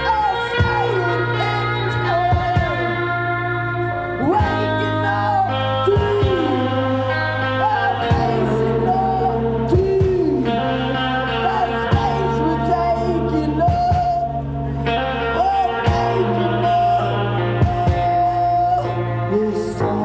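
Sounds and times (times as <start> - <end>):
bass line: 0.0 - 20.0
rock band playing: 0.0 - 20.0.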